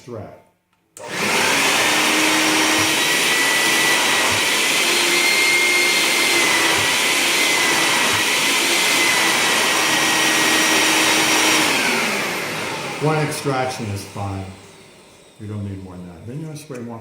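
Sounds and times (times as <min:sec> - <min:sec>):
vacuum motor whine: 0:01.0 - 0:17.0.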